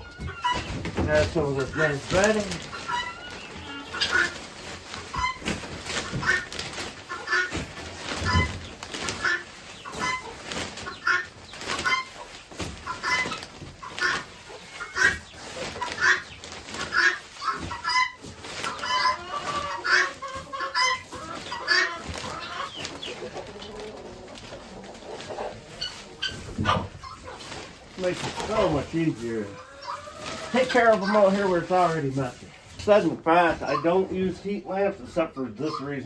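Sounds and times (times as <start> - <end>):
chickens clucking: 0.0 - 36.0
short rustling and scraping: 0.2 - 11.0, 11.6 - 36.0.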